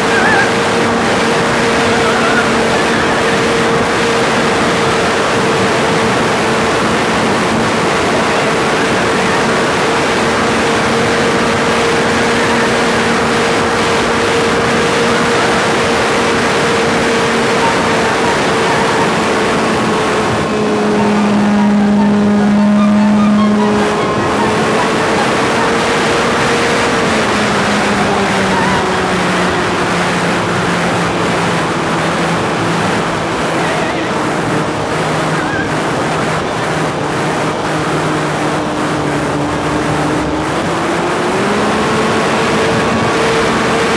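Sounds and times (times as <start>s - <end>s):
model aircraft engine running: 0.0s - 43.9s
wind rushing over microphone: 0.0s - 43.9s.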